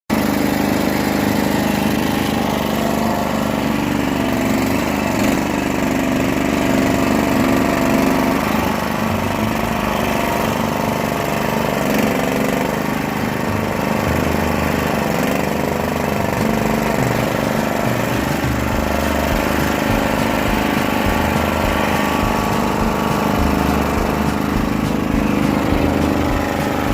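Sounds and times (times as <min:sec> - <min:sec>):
backhoe engine running: 0:00.1 - 0:26.9.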